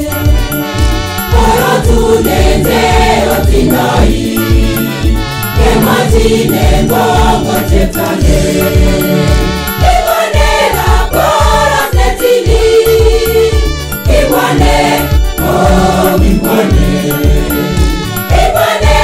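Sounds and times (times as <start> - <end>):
backing music with low beat: 0.0 - 19.0
choir singing: 1.3 - 19.0.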